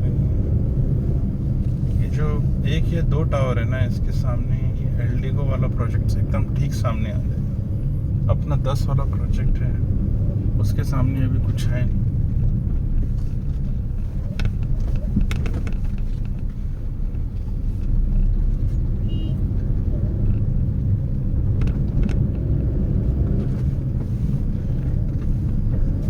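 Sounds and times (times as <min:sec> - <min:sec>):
car rumbling: 0:00.0 - 0:26.0.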